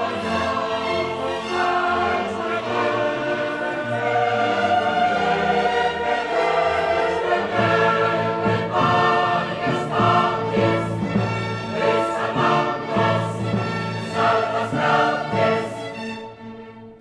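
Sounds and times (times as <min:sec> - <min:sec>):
choir singing held notes: 0:00.0 - 0:16.4
orchestral accompaniment: 0:00.0 - 0:17.0.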